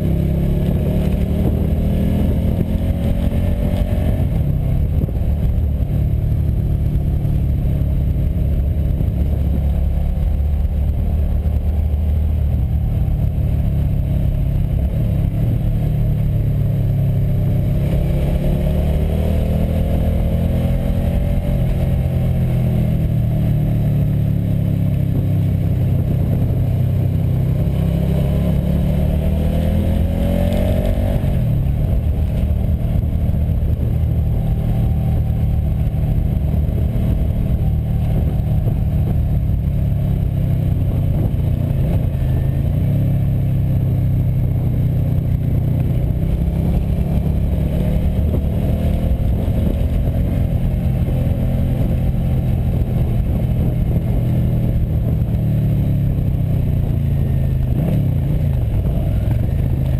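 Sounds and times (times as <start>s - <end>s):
motorcycle engine running: 0.0s - 59.9s
riding wind rush: 0.0s - 59.9s.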